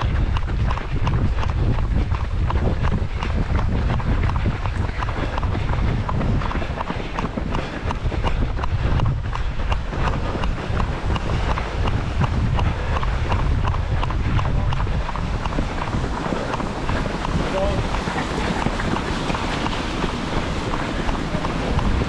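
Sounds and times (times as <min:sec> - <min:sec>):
running footsteps on pavement: 0:00.0 - 0:22.0
wind buffeting microphone: 0:00.0 - 0:22.0.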